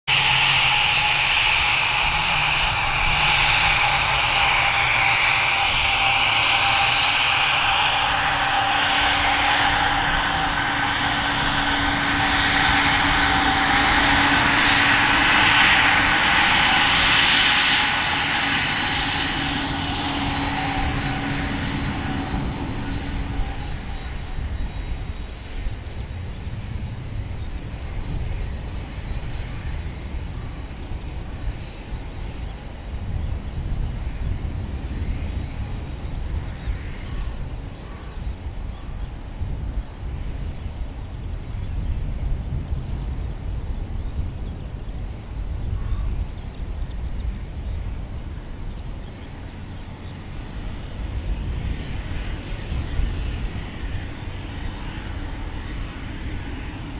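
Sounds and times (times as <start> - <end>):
jet engines whining: 0.1 - 56.9.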